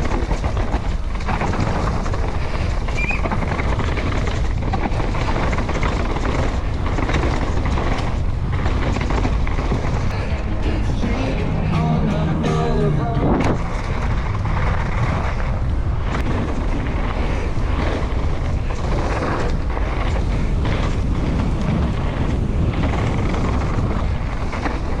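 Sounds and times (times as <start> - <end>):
bike tyres rolling over ground: 0.0 - 10.5, 13.6 - 25.0
wind on microphone: 0.0 - 12.2, 12.8 - 25.0.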